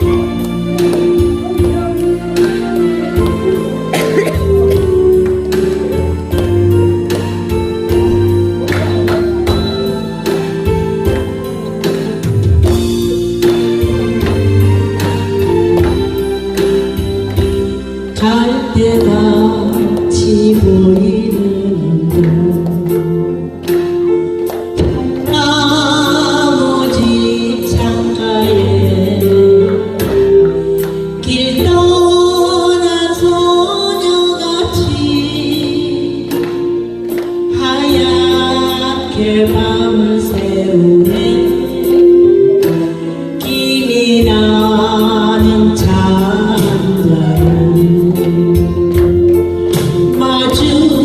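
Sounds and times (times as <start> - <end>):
ballad instrumental with steady beat: 0.0 - 51.0.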